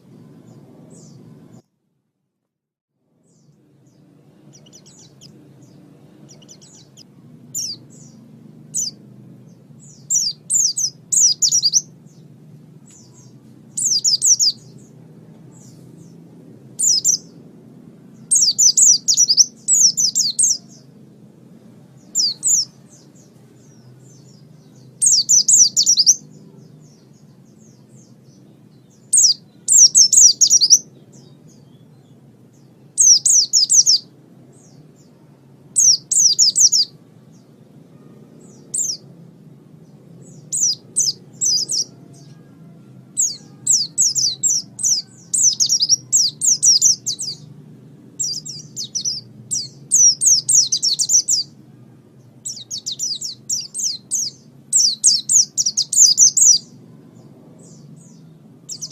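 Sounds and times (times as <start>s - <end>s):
small songbird chirping: 0.0s - 1.7s, 3.0s - 58.9s
faint low hum: 0.0s - 2.2s, 3.0s - 58.9s.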